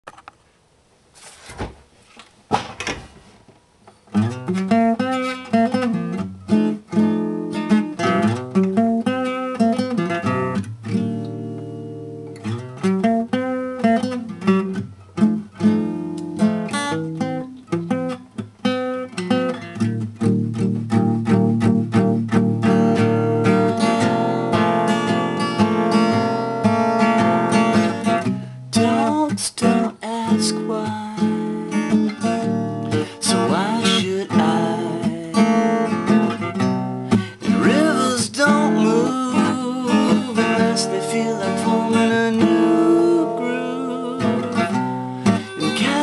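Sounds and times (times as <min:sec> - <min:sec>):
acoustic guitar playing: 0:03.8 - 0:46.0.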